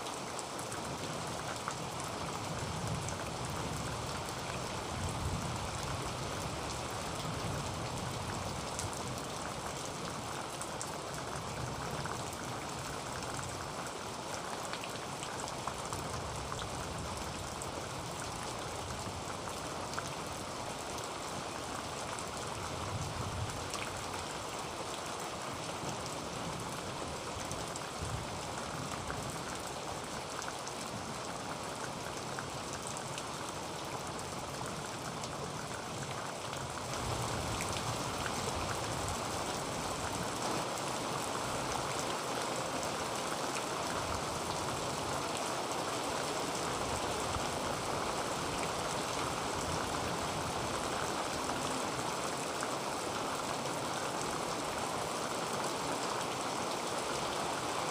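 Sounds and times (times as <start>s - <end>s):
heavy rain on a tin roof: 0.0s - 57.9s.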